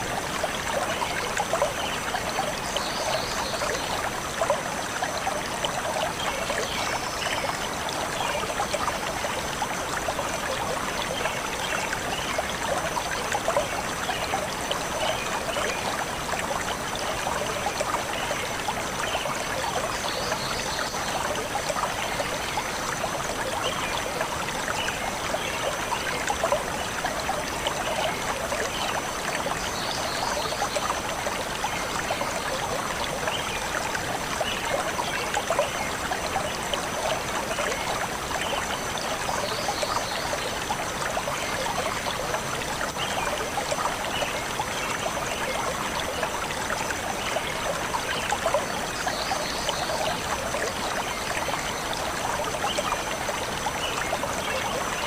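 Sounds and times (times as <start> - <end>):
stream flowing over stones: 0.0 - 55.0.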